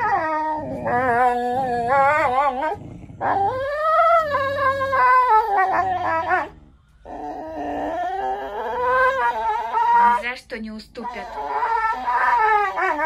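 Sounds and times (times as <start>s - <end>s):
dog howling and whining: 0.0s - 10.3s, 11.0s - 13.0s.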